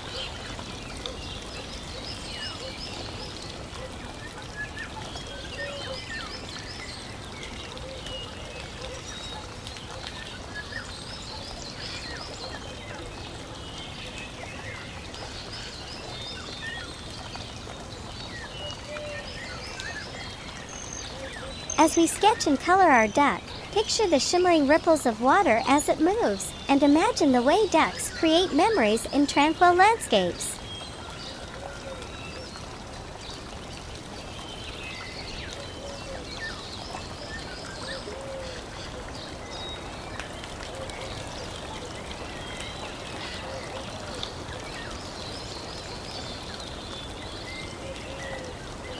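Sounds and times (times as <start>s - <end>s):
running water: 0.0s - 48.9s.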